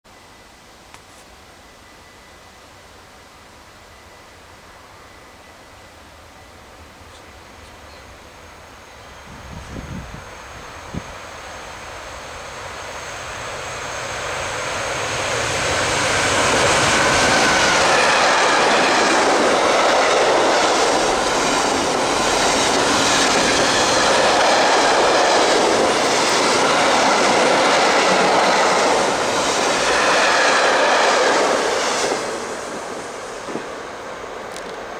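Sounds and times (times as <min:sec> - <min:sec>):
freight train passing: 0:00.1 - 0:34.9.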